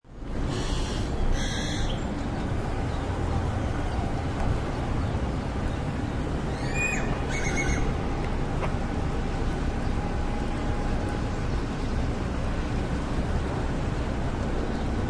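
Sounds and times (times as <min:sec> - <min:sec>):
traffic and city rumble: 0:00.0 - 0:15.0.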